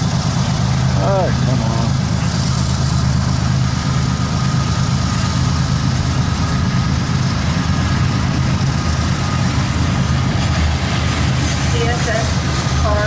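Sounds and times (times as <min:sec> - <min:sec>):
train cars rumbling past: 0:00.0 - 0:13.0.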